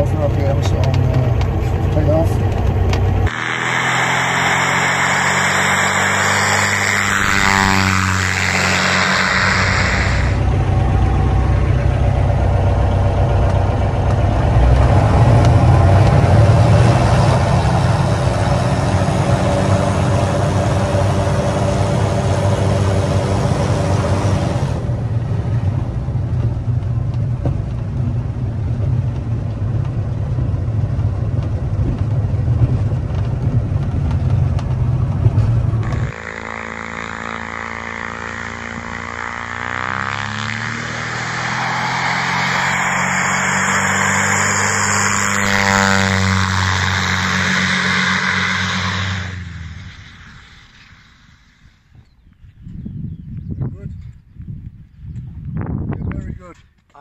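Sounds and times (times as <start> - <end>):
aircraft engine and propeller drone: 0.0 - 51.8.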